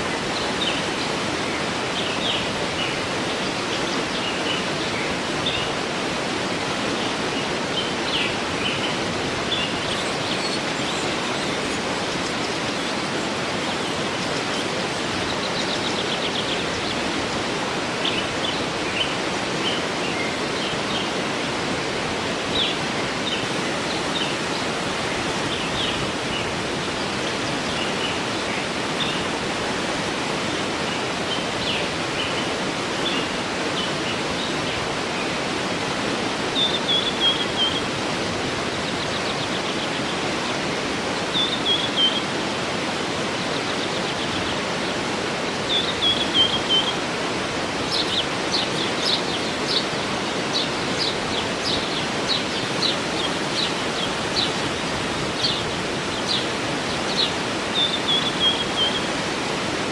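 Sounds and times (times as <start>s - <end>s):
birds singing: 0.0s - 59.8s
waterfall rushing: 0.0s - 59.9s.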